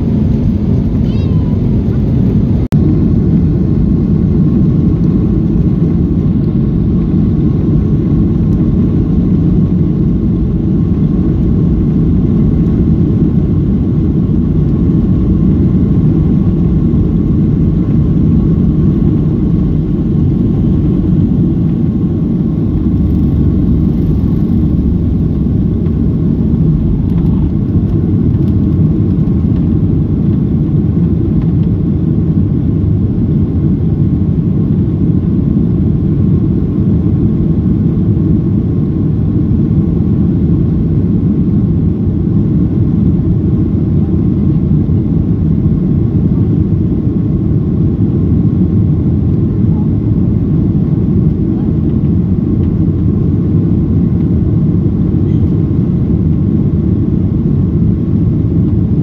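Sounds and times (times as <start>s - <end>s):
faint steady whine: 0.0s - 59.0s
jet engine drone in cabin: 0.0s - 59.0s.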